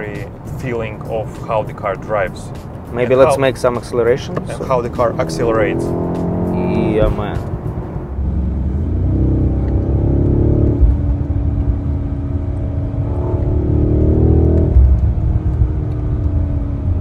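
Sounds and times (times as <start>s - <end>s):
car engine accelerating hard: 0.3s - 17.0s.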